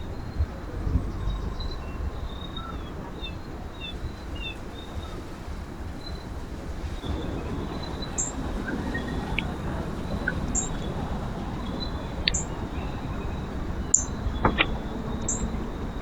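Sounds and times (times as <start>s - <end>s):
low outdoor rumble: 0.0s - 16.0s
sharp bird calls: 0.0s - 16.0s.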